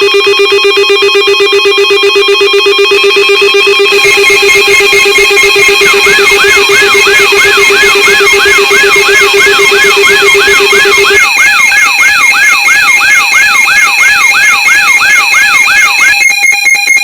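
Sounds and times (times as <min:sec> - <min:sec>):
electronic alarm siren warbling: 0:00.0 - 0:17.0
low rapid beep: 0:00.0 - 0:17.0
high beeping tones: 0:00.3 - 0:17.0.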